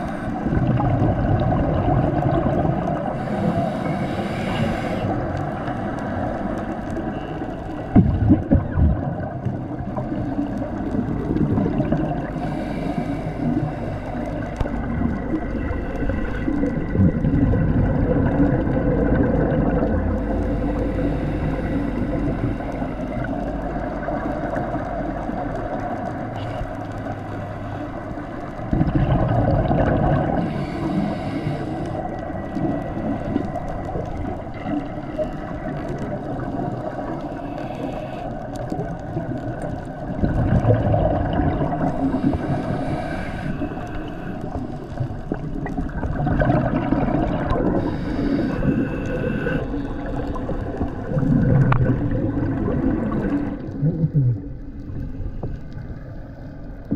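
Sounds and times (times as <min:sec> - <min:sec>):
low steady drone: 0:00.0 - 0:28.9, 0:29.9 - 0:56.9
regulator bubbles gurgling: 0:00.0 - 0:56.9
underwater wash: 0:00.0 - 0:56.9.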